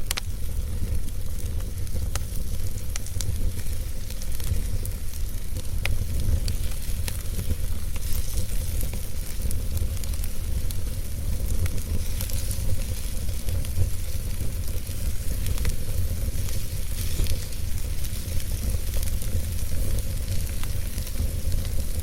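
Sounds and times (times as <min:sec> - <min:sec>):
low rumble of flames: 0:00.0 - 0:22.0
wood crackling and popping: 0:00.0 - 0:22.0.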